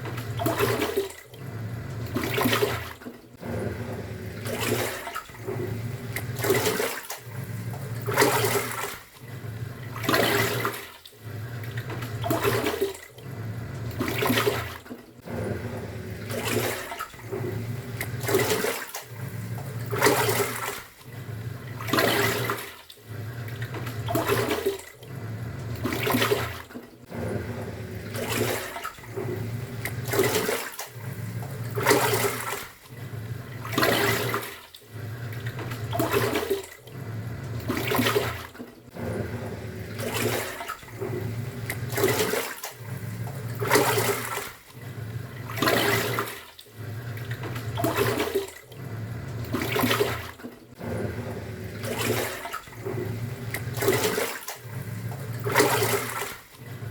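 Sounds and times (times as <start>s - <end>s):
washing machine motor humming: 0.0s - 56.9s
water sloshing: 0.0s - 56.9s.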